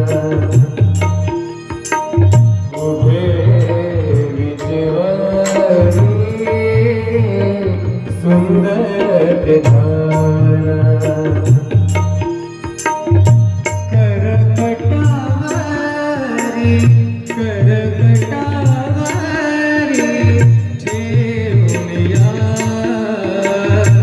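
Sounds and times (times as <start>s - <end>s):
person singing: 0.0s - 1.8s, 2.7s - 12.0s, 13.8s - 24.0s
tabla beat: 0.0s - 24.0s.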